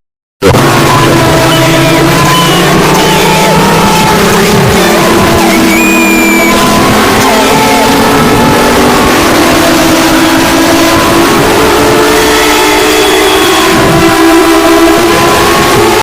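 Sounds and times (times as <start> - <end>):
loud distorted emergency alarm: 0.4 - 16.0.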